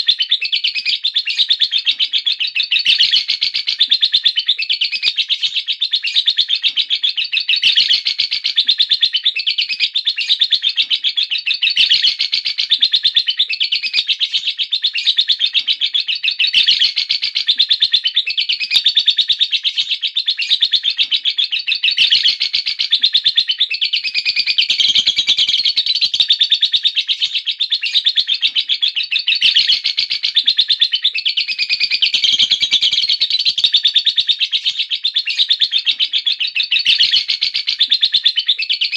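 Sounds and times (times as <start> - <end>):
lovebird chattering trill: 0.0 - 38.9.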